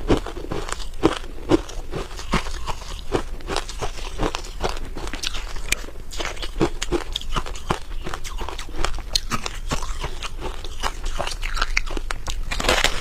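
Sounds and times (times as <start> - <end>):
frost being chewed: 0.0 - 13.0.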